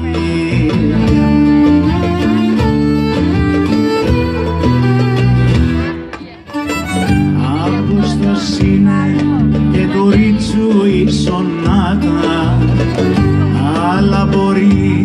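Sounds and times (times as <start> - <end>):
acoustic guitar: 0.0 - 15.0
violin: 0.0 - 15.0.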